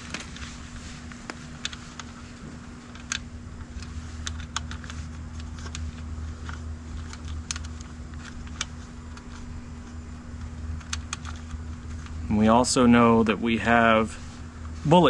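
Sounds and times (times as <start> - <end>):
small clicks of handled wire leads: 0.0 - 12.3
steady low hum: 0.0 - 15.0.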